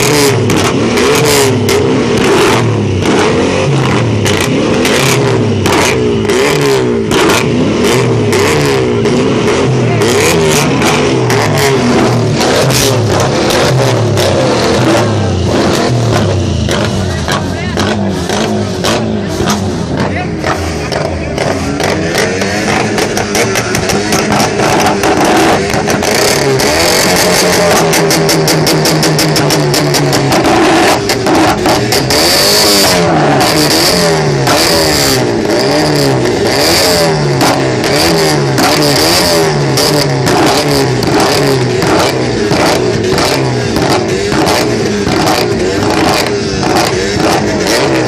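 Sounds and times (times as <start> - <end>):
car engine revving: 0.0 - 48.0
exhaust backfiring pops and bangs: 0.0 - 48.0.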